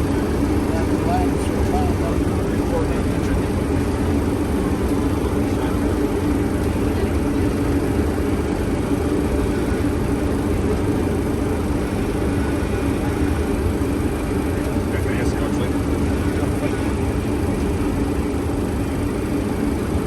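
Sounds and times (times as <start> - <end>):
aircraft engine noise: 0.0 - 20.0.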